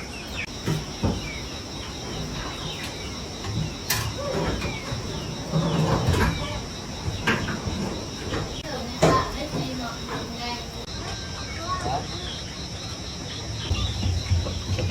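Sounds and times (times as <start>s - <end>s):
falling bird chirps: 0.0s - 14.9s
high insect drone: 0.0s - 14.9s.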